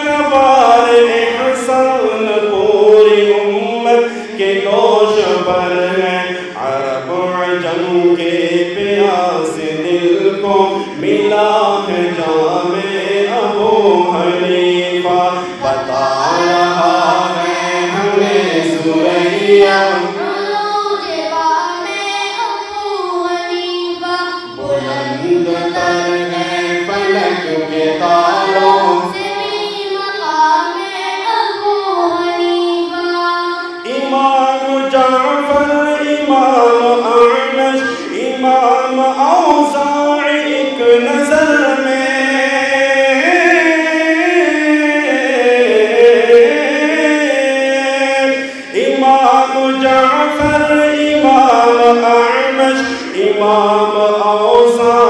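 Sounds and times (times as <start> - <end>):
voices chanting devotional song: 0.0 - 55.0.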